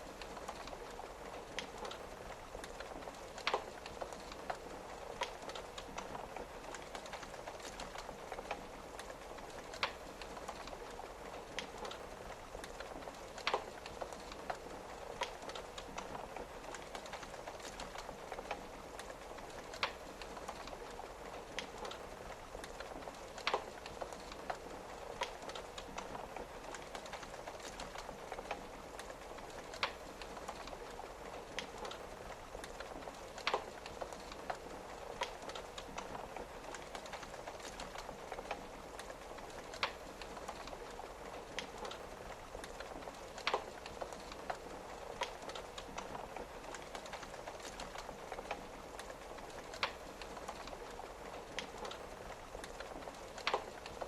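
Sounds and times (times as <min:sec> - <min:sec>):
rain on a window: 0:00.0 - 0:54.0
wood fire crackling and popping: 0:00.0 - 0:54.0.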